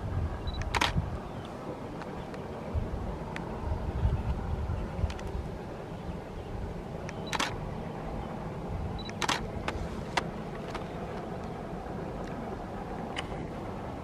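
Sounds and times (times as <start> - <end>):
distant steam train rumble: 0.0 - 14.0.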